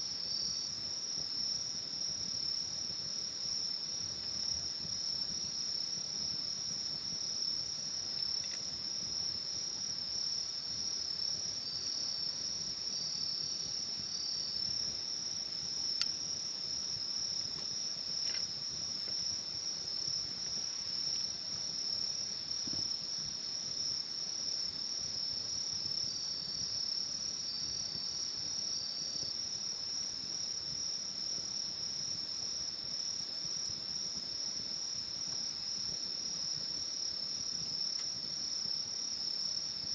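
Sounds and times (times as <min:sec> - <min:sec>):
fainter insect trill: 0:00.0 - 0:39.9.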